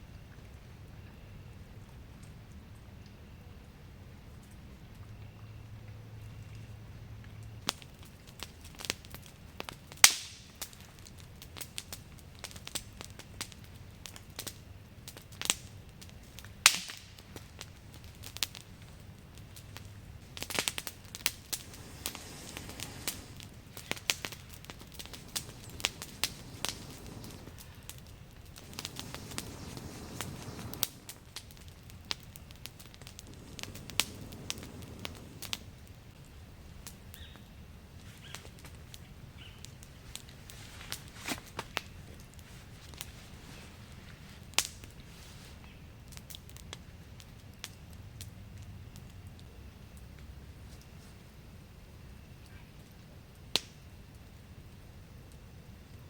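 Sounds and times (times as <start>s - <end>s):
campfire crackling and popping: 7.6s - 51.0s, 52.8s - 56.0s.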